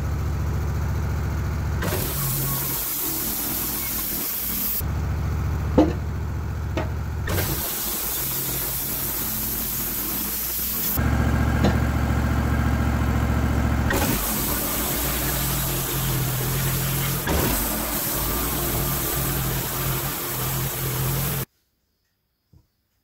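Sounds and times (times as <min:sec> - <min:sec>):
gas engine running: 0:00.0 - 0:21.5.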